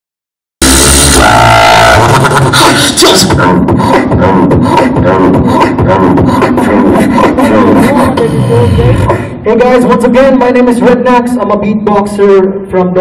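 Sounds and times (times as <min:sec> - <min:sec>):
beatboxing through loudspeaker: 0:00.6 - 0:13.0.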